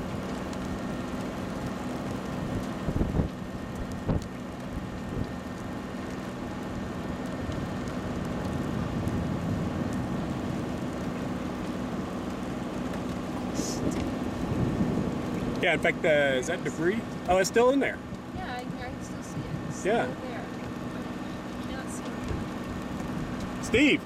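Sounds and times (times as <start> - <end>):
rain falling on a vehicle: 0.0 - 24.0
vehicle low hum: 0.0 - 24.0.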